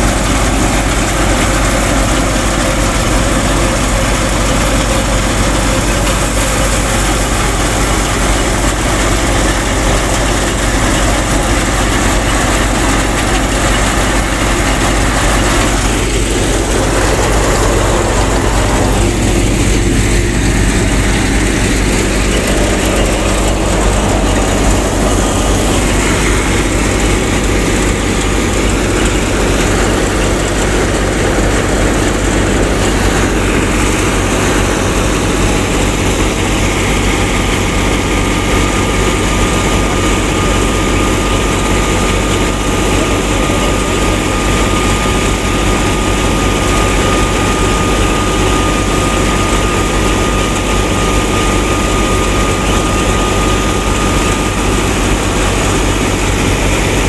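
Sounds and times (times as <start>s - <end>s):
thresher running: 0.0s - 57.0s.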